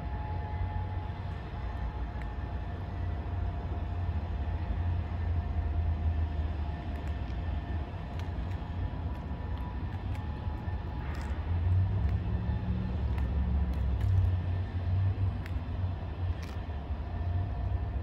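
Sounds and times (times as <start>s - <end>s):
distant diesel locomotive rumble: 0.0s - 18.0s.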